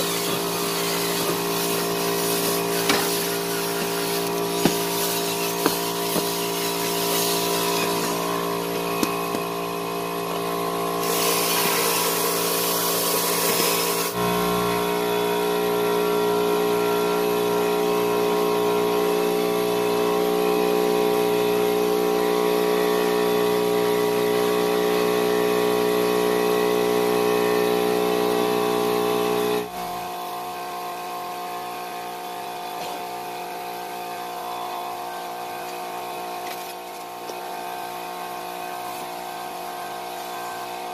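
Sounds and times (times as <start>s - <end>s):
electric motor hum: 0.0s - 40.9s.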